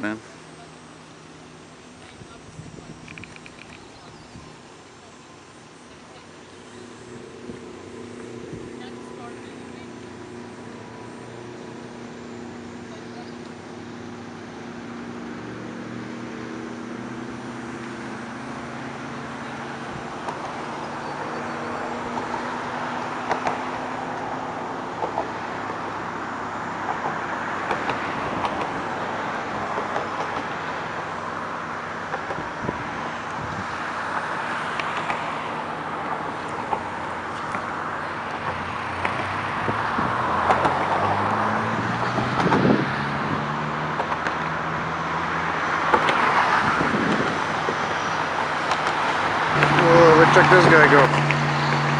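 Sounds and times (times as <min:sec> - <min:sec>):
cars whooshing by: 0:00.0 - 0:51.9
steady engine drone: 0:00.0 - 0:51.9.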